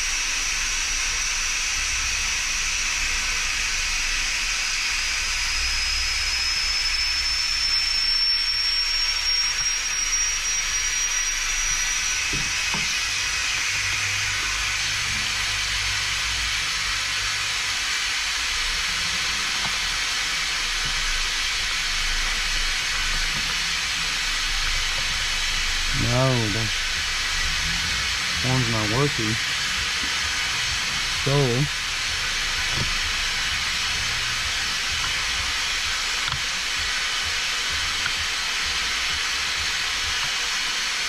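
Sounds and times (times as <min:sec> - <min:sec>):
low hum: 0:00.0 - 0:40.2
faint high whine rising in pitch: 0:00.0 - 0:41.0
steady hiss: 0:00.0 - 0:41.0.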